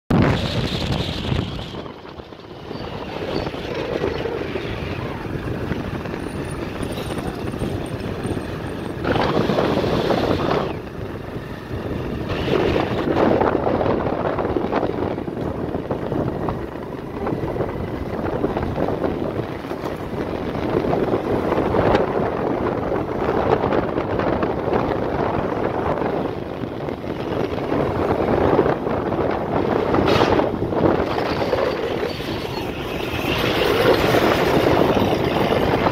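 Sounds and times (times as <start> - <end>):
road noise: 0.1 - 35.9
vehicle engine: 0.1 - 35.9
wind rushing over microphone: 0.1 - 35.9.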